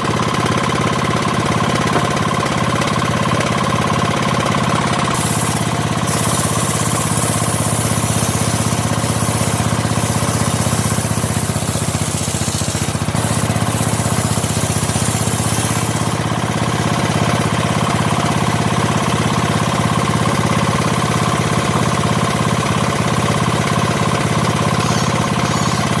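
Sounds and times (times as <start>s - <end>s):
sawmill saw pulsing drone: 0.0s - 26.0s.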